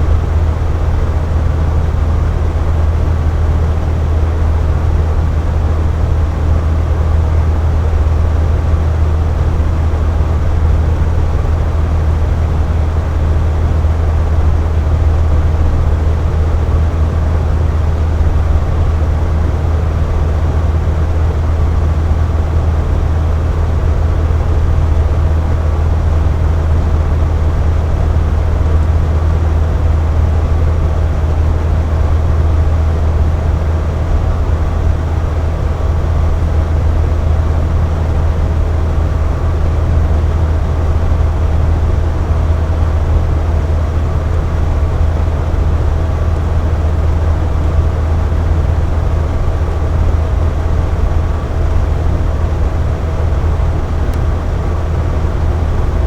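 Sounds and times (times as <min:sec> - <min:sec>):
box fan whooshing hum: 0:00.0 - 0:56.0.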